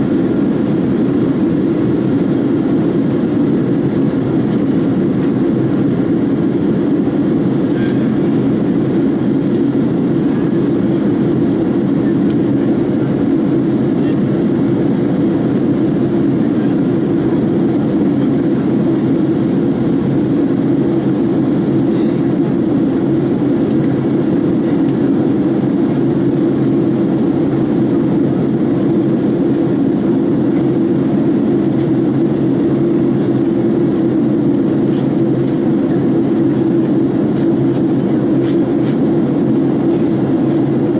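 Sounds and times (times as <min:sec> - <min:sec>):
airliner cabin roar: 0:00.0 - 0:40.9.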